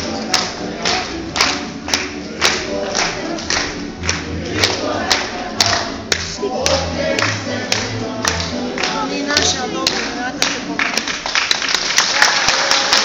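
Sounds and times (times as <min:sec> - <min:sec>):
young people singing together: 0:00.0 - 0:10.9
rhythmic stamping on wooden stage: 0:00.0 - 0:13.0.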